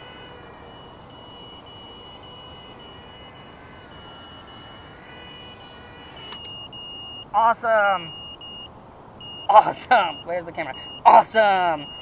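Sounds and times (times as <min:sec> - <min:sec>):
drone motors whining: 0:00.0 - 0:12.0
high-pitched warning buzzer: 0:00.0 - 0:12.0.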